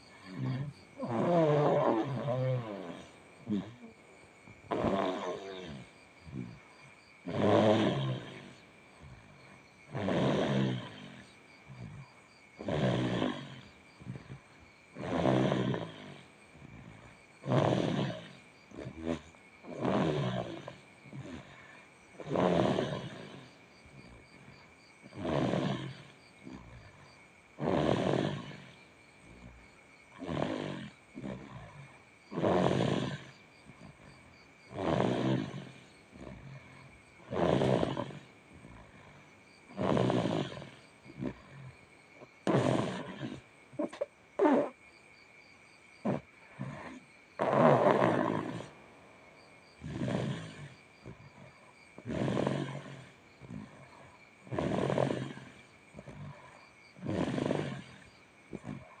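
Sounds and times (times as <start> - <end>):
child snoring: 0.0 - 34.1, 34.7 - 44.8, 46.0 - 48.8, 49.8 - 59.0
quiet breaths: 0.0 - 59.0.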